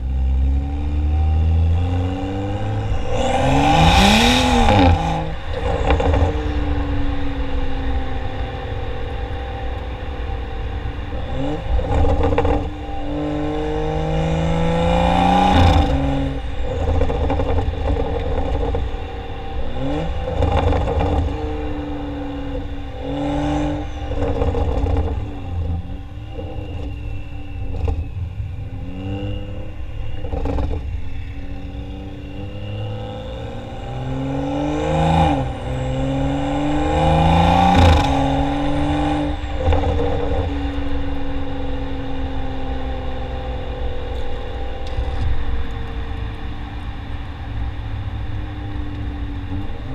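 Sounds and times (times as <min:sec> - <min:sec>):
car exhaust revving: 0:00.0 - 0:49.9.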